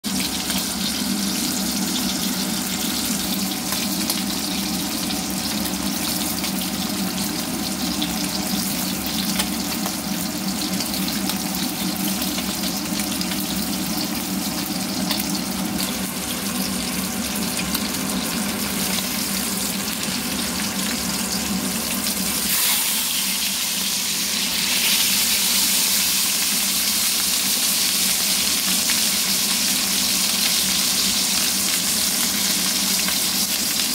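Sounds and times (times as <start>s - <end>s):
fish sizzling in hot oil: 0.0s - 33.9s.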